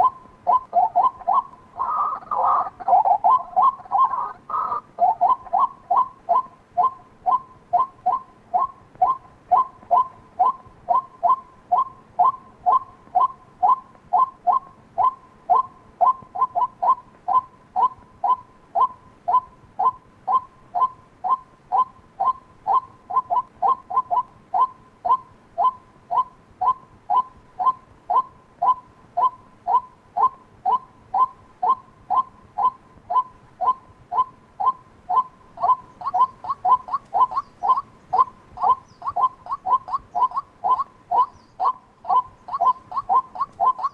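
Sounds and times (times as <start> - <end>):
waterhen calling: 0.0 - 43.9.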